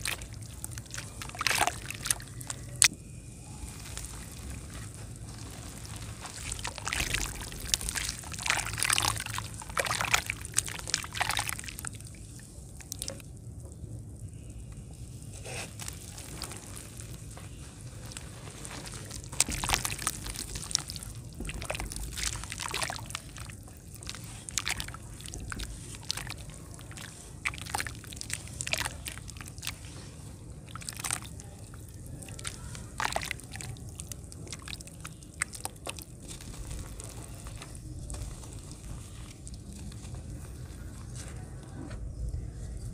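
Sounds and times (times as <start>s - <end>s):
dry lumps crumbling: 0.0s - 41.4s
muddy water sloshing and squelching: 0.0s - 42.9s.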